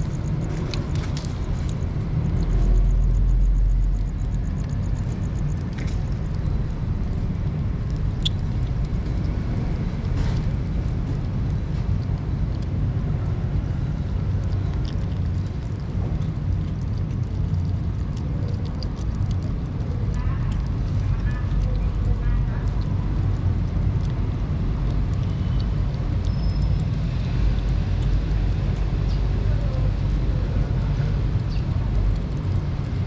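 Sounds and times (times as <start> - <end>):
kittens chewing and lapping food: 0.0 - 33.0
steady low rumble: 0.0 - 33.0.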